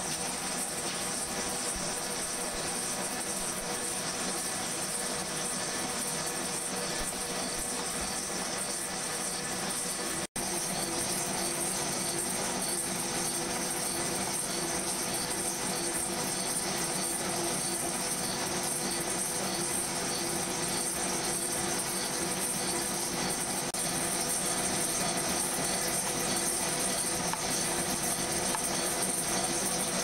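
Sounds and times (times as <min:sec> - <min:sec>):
milling machine cutting steel: 0:00.6 - 0:30.0.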